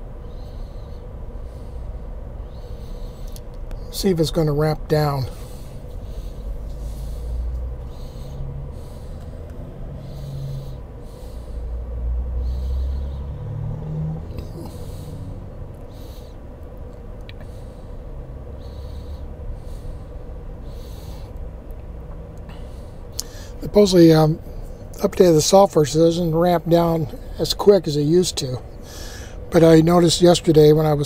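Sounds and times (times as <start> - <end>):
low rumbling: 0.0 - 25.0
air conditioning whirring: 0.0 - 31.0
steady hum: 0.0 - 31.0.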